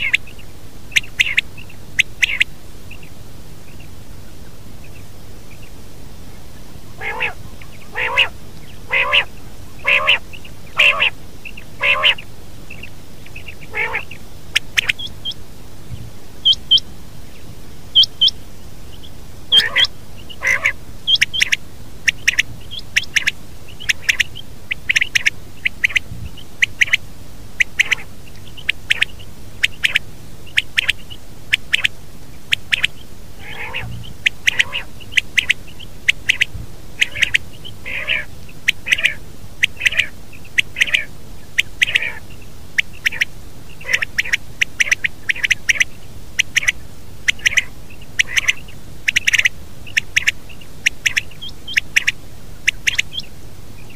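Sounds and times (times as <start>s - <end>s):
quail calling: 0.0s - 53.9s
steady hiss: 0.0s - 53.9s.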